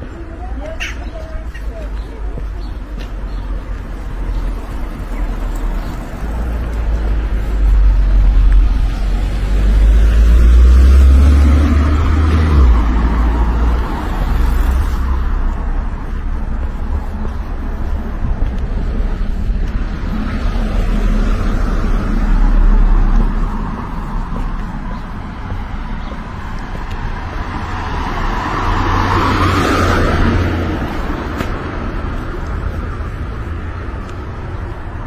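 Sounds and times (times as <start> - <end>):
car road rumble: 0.0 - 35.0.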